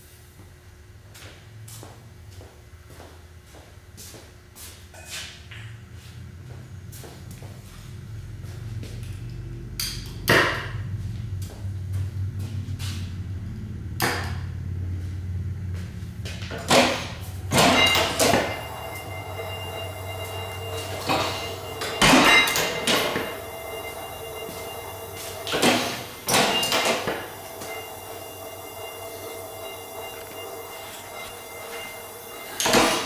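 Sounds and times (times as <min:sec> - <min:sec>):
engine knocks and metal clatter: 0:05.6 - 0:33.0.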